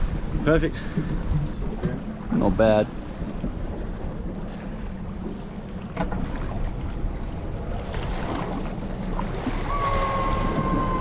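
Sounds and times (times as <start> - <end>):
water washing against boat hull: 0.0 - 11.0
wind buffeting microphone: 0.0 - 11.0.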